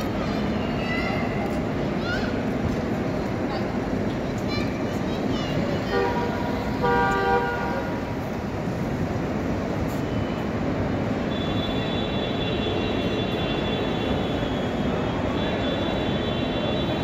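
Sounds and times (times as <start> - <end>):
crowd noise: 0.0 - 17.0
traffic roar: 0.0 - 17.0.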